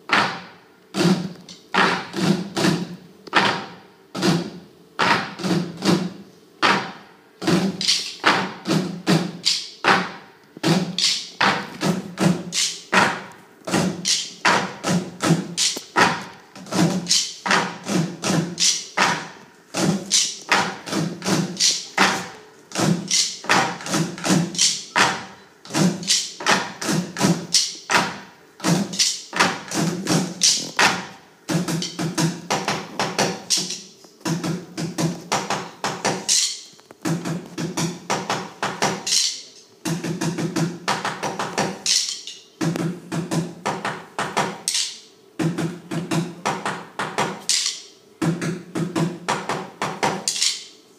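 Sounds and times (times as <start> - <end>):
children drumming on boxes: 0.0 - 44.8, 45.4 - 50.5.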